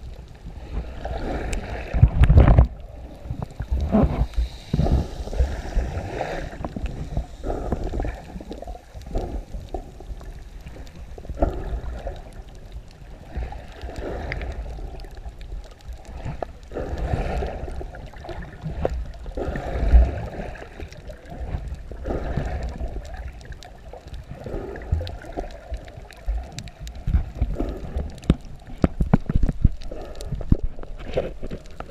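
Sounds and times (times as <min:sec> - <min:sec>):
muffled underwater rumble: 0:00.0 - 0:31.9.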